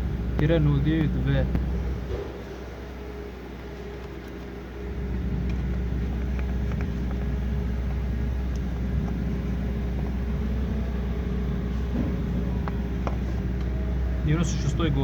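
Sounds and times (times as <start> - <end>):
constant hum: 0.0 - 15.0
low engine rumble: 0.0 - 15.0.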